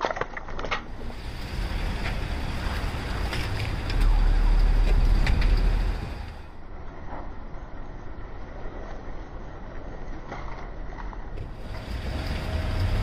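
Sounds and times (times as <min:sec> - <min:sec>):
engine and tyres rumbling: 0:00.0 - 0:13.0.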